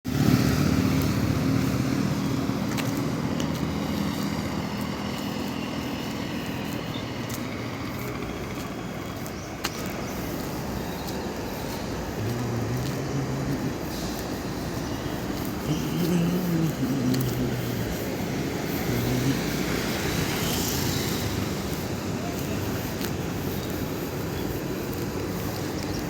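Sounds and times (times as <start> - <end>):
vehicle engine humming: 0.1 - 26.0.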